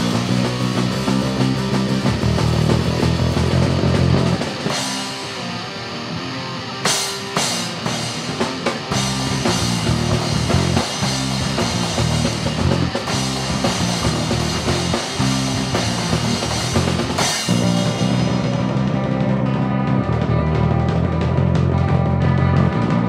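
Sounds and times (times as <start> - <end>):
rock music: 0.0 - 23.0.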